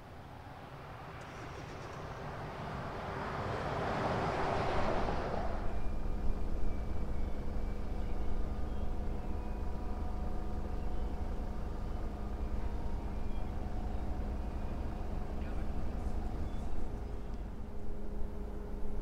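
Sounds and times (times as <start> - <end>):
locomotive engine drone: 0.0 - 19.0.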